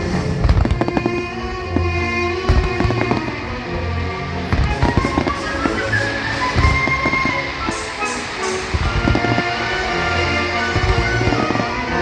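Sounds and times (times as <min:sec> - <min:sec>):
fireworks bangs: 0:00.0 - 0:12.0
show music with strings: 0:00.0 - 0:12.0.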